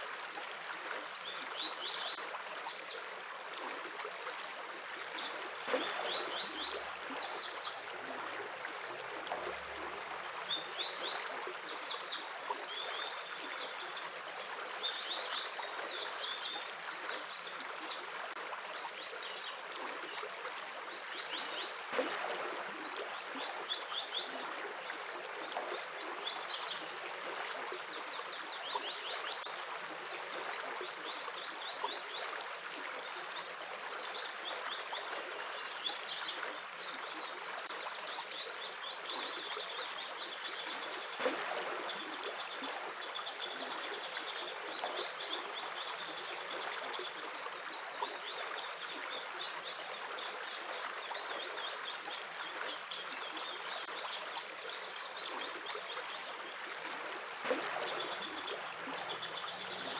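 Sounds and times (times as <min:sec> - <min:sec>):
stream of water running: 0:00.0 - 0:59.9.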